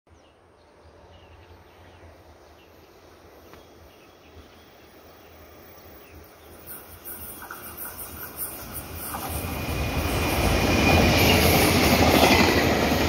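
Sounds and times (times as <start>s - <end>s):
electric train approaching on rails: 0.4s - 13.0s.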